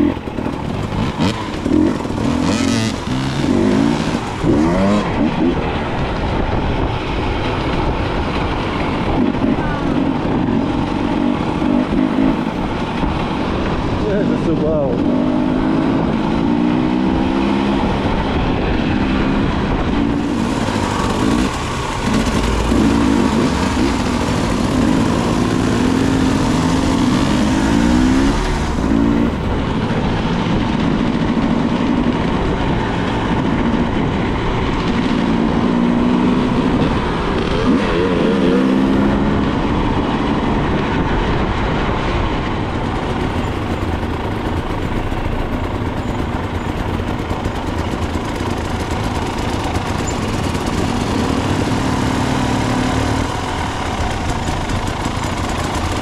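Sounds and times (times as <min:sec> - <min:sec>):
motorcycle engine revving: 0:00.0 - 0:56.0
steady rush of noise: 0:00.0 - 0:56.0.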